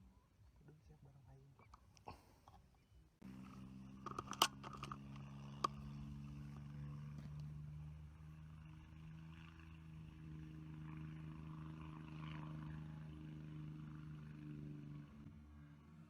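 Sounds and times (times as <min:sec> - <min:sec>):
faint engine hum: 0:00.0 - 0:16.0.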